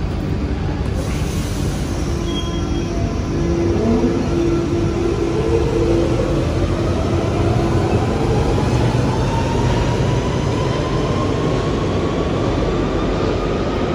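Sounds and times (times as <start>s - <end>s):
rumble of wheels on track: 0.0s - 13.9s.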